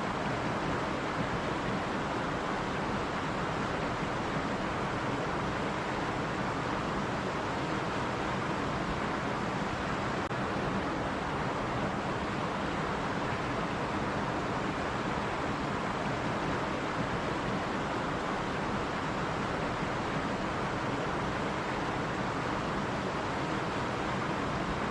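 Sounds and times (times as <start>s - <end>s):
water flowing over rocks: 0.0s - 24.9s.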